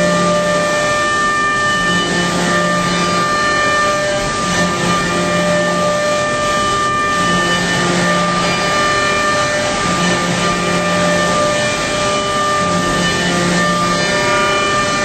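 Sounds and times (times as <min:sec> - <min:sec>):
end mill cutting metal whine: 0:00.0 - 0:15.0.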